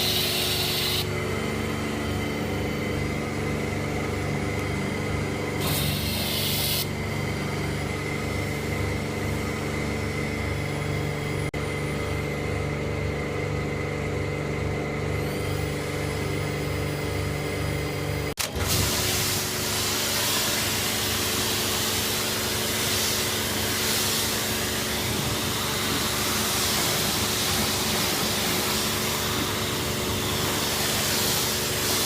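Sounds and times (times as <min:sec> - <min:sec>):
pressure washer motor hum: 0:00.0 - 0:12.2, 0:14.9 - 0:32.0.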